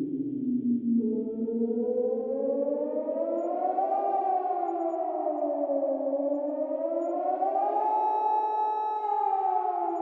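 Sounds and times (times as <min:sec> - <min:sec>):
civil defense siren wailing: 0:01.2 - 0:10.0.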